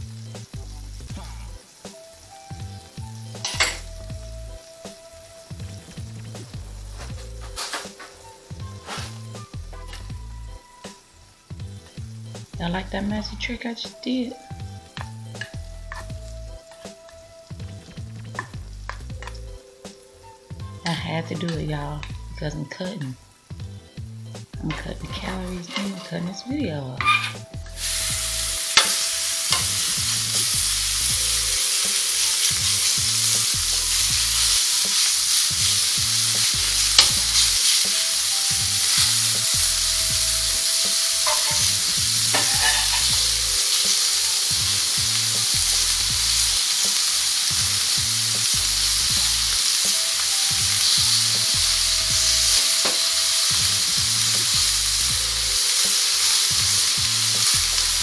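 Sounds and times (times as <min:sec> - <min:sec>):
meat sizzling on griddle: 0:00.0 - 0:12.6, 0:13.7 - 0:20.9, 0:23.2 - 0:26.2, 0:27.0 - 0:58.0.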